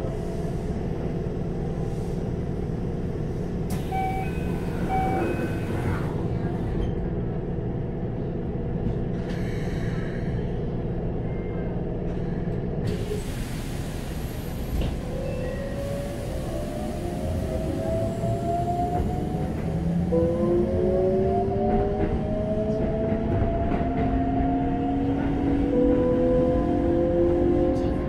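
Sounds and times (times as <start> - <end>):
train car hum: 0.0 - 28.0.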